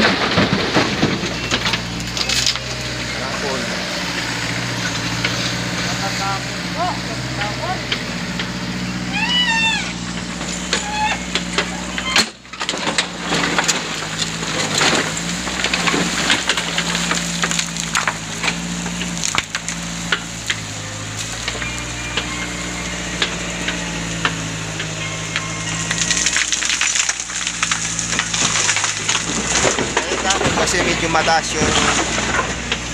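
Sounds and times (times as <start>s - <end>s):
bucket crunching and clattering stones: 0.0s - 8.6s, 9.9s - 32.9s
diesel engine running: 0.0s - 32.9s.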